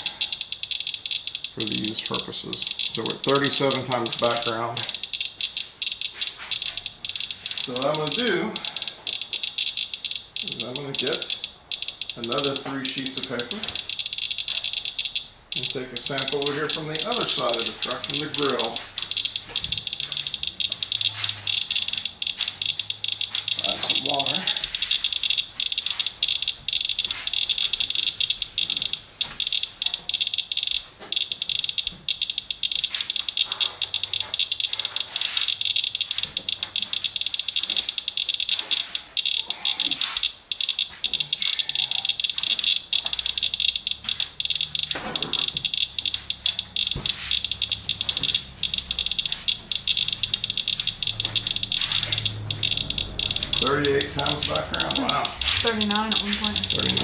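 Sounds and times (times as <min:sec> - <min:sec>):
geiger counter clicking rapidly: 0:00.0 - 0:57.0.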